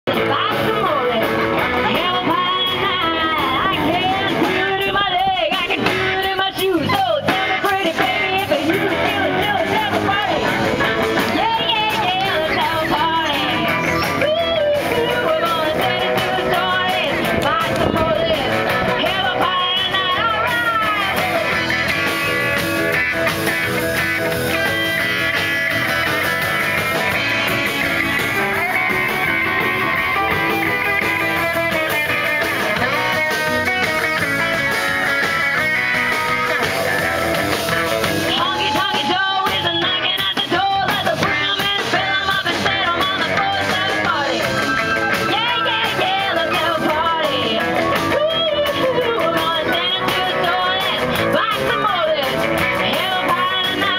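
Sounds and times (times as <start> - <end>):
person singing: 0.1 - 22.3, 27.0 - 53.9
blues band playing: 0.1 - 53.9
guitar lines: 0.1 - 53.9.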